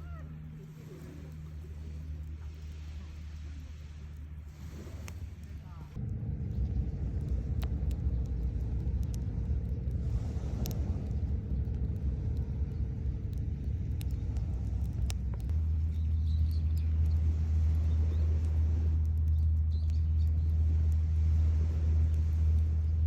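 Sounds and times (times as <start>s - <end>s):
low rumble of fire: 0.0s - 23.0s
fire crackling and popping: 1.0s - 23.0s.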